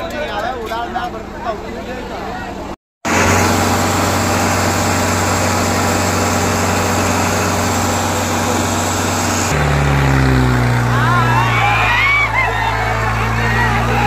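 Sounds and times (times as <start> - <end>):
tractor diesel engine running: 2.6 - 14.0.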